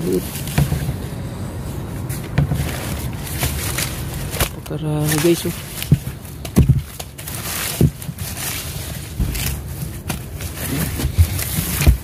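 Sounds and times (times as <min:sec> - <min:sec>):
lettuce rustling: 0:00.0 - 0:01.1, 0:01.7 - 0:12.0
dull thumps: 0:00.3 - 0:01.2, 0:02.0 - 0:12.0.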